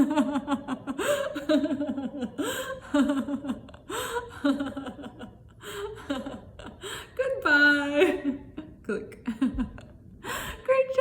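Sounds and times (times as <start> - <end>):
woman laughing: 0.0 - 10.4.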